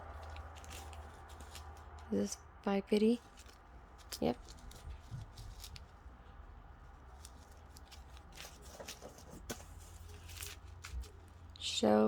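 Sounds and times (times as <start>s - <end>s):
plastic bags crinkling: 0.0s - 2.2s, 3.2s - 6.0s, 6.9s - 11.6s.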